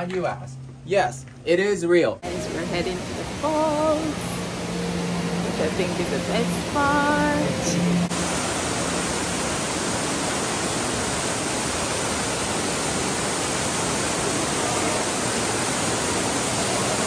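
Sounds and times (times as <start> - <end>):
waterfall rushing: 2.2 - 17.0.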